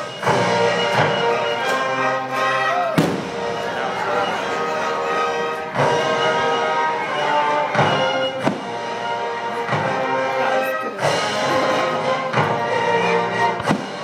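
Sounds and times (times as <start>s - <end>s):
orchestra playing classical music: 0.0s - 14.0s.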